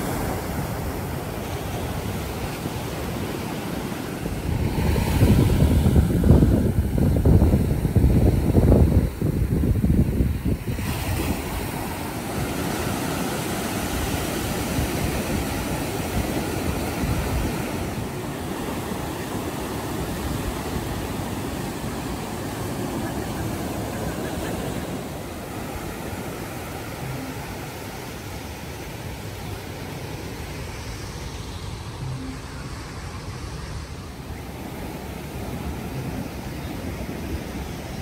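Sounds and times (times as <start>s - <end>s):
ocean waves breaking on beach: 0.0s - 38.0s.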